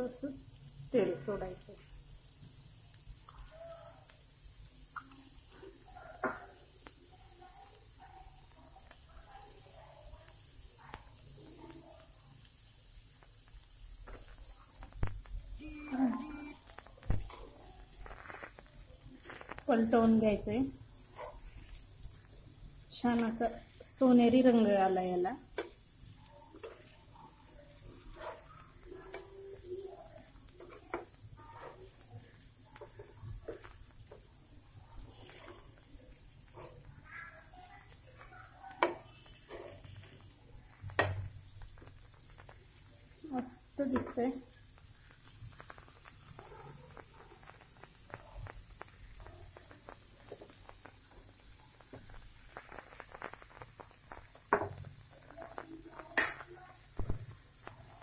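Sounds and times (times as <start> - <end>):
fish sizzling in a pan: 0.0 - 58.0
hot oil crackling and popping: 0.0 - 58.0.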